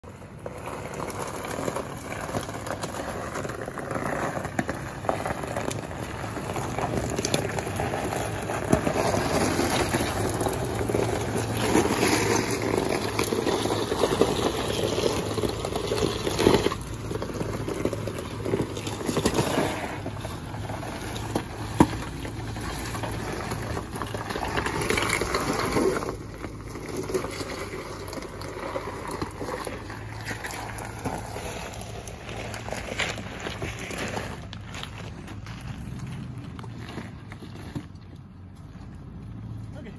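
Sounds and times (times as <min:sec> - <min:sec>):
engine running low: 0:00.0 - 0:39.9
tyres crunching over loose rock: 0:00.0 - 0:39.9.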